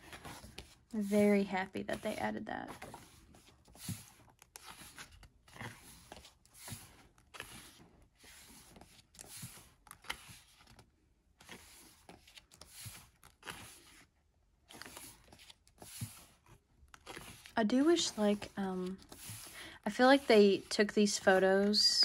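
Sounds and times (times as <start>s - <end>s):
paper pages rustling and turning: 0.0s - 22.0s.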